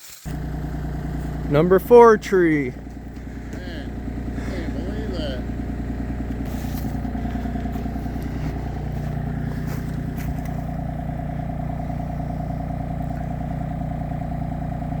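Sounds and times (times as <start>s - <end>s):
engine running steadily: 0.2s - 15.0s.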